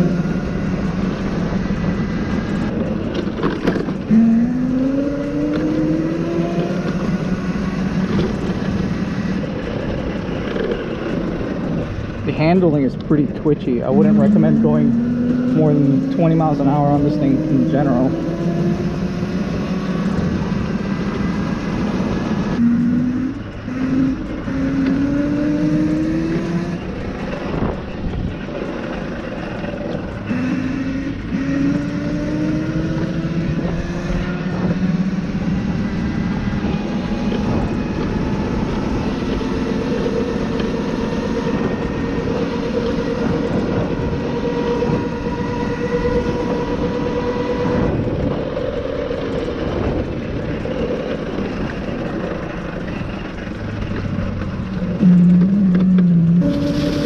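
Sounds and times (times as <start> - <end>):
electric motor whining: 0.0 - 57.0
road and wind noise: 0.0 - 57.0.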